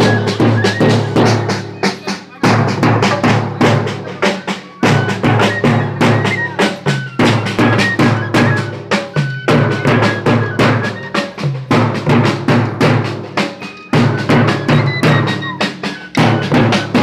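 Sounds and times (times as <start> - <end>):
group of drums beating fast: 0.0 - 17.0.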